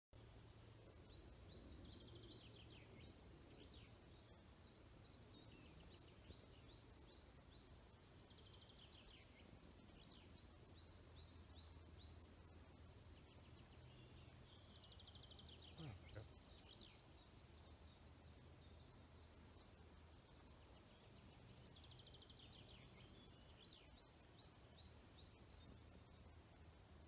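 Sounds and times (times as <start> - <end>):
songbird singing: 0.2 - 27.0.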